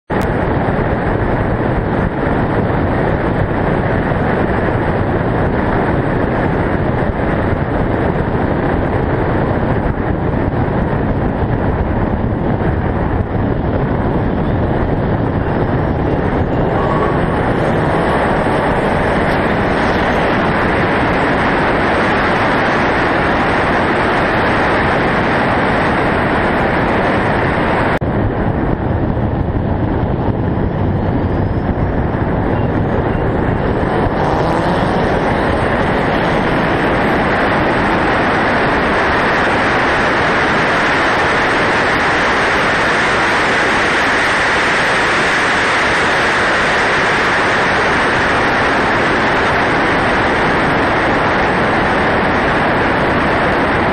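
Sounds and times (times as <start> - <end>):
car engine at speed: 0.1 - 53.9
wind buffeting microphone: 0.1 - 53.9.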